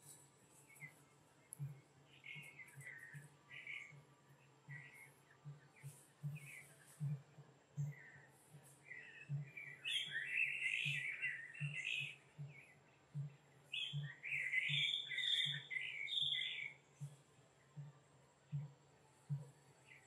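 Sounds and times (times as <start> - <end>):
birds chattering song: 0.0 - 7.2, 7.8 - 17.2.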